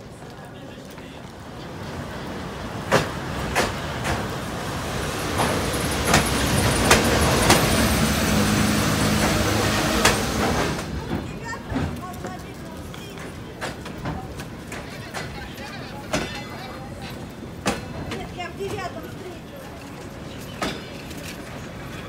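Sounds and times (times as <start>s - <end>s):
train wheels rumbling on rail: 0.0s - 22.0s
wheels clacking over rail joints: 0.0s - 22.0s.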